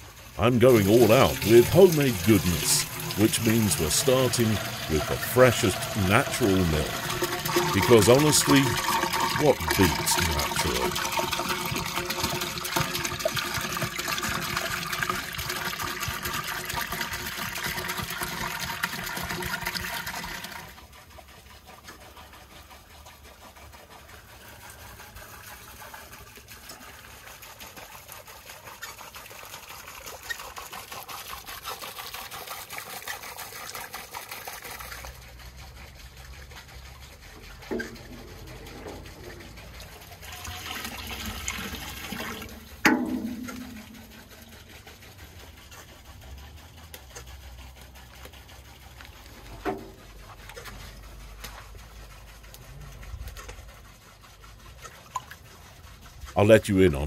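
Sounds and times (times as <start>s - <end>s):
milk pouring and splashing into pot: 0.2s - 56.8s
ladle scooping and pouring milk: 0.2s - 57.0s.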